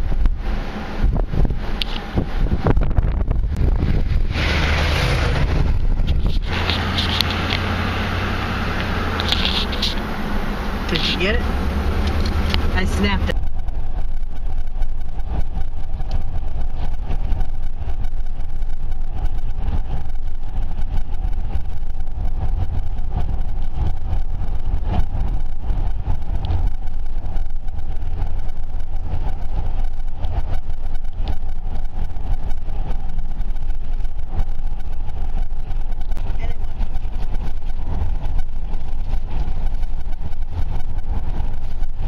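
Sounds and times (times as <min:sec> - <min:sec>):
car road and engine rumble: 0:00.0 - 0:42.0
mid-pitched hum: 0:00.0 - 0:42.0.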